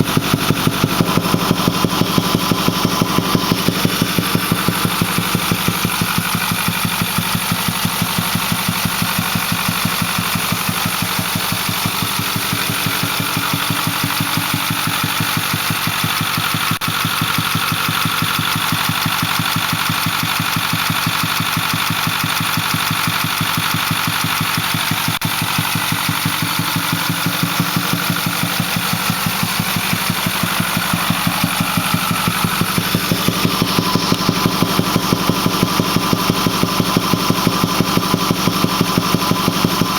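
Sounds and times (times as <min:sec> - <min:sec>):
fast even thumping: 0:00.0 - 0:19.2, 0:25.2 - 0:39.9
diesel engine running: 0:00.0 - 0:39.9.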